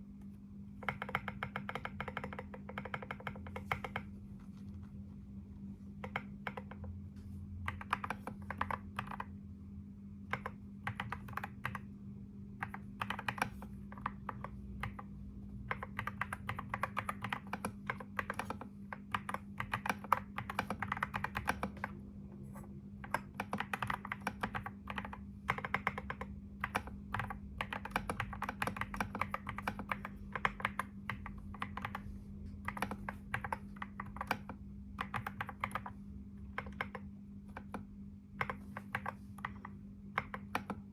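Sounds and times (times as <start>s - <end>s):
steady low hum: 0.0s - 40.9s
computer keyboard typing: 0.7s - 4.2s, 6.0s - 7.0s, 7.6s - 9.4s, 10.2s - 12.0s, 12.6s - 40.9s.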